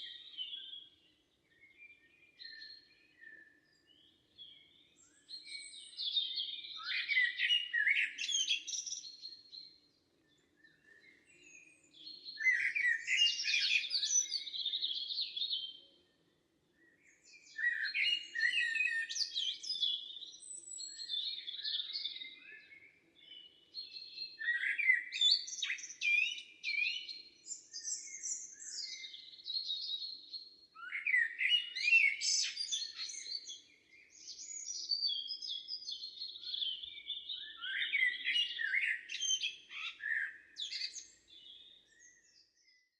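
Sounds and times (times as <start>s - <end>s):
songbird chirping and trilling: 0.0s - 42.9s.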